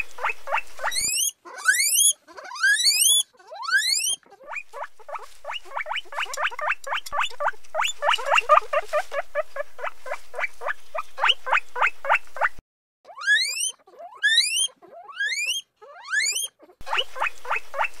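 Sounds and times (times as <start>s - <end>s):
guinea pig whistled squeaks: 0.0s - 12.5s, 13.1s - 18.0s
guinea pig squeaking: 0.0s - 18.0s.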